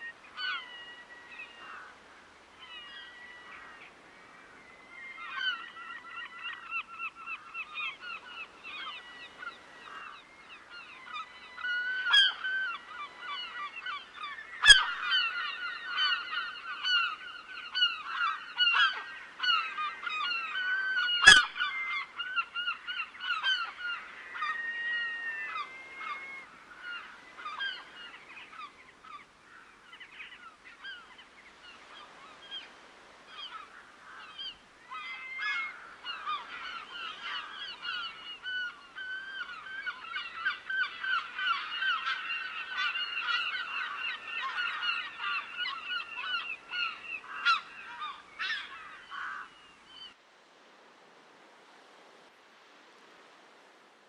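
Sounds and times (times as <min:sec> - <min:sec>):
waterbirds calling: 0:00.0 - 0:50.2.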